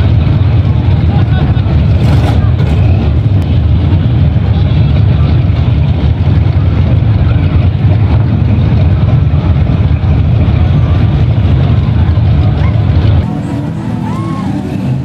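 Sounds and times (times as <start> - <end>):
pickup truck engine rumbling: 0.0 - 15.0.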